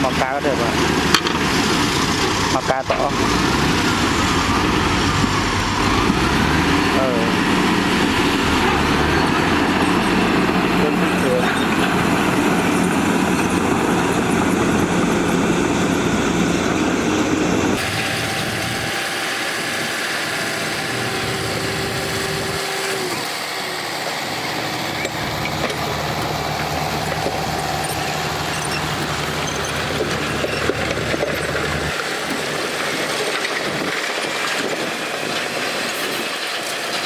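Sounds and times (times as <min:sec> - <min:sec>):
heavy diesel engines running: 0:00.0 - 0:37.0.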